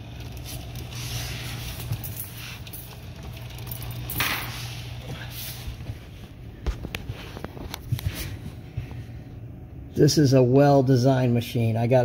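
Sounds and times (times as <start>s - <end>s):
dishwasher low hum: 0.0s - 12.0s.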